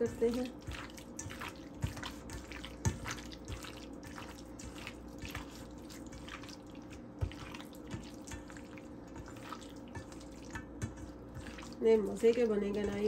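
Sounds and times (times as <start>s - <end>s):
chicken squelching in marinade: 0.0s - 13.0s.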